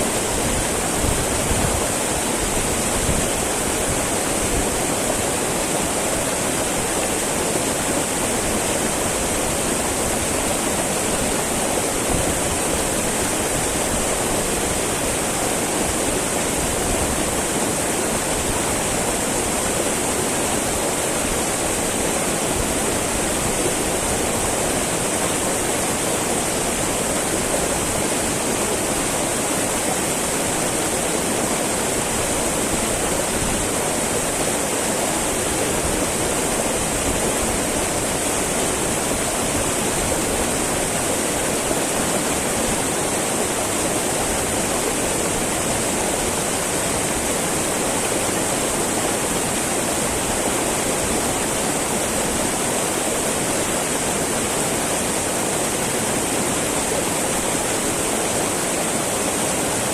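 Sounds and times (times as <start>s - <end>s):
river babbling: 0.0s - 59.9s.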